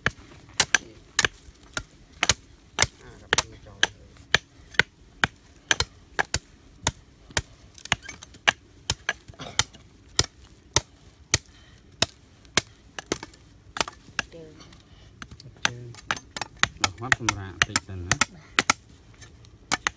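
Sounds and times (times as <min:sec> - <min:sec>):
knife chopping wooden stick: 0:00.0 - 0:14.3, 0:15.2 - 0:18.8, 0:19.7 - 0:19.9.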